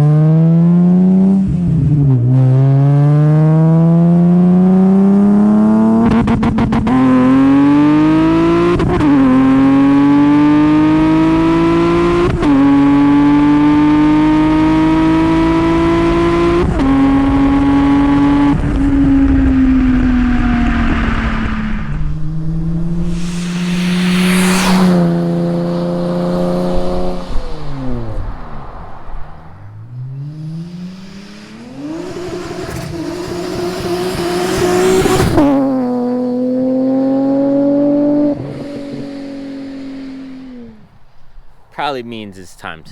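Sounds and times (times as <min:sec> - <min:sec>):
car engine accelerating: 0:00.0 - 0:41.6
car rushing past: 0:00.0 - 0:41.7.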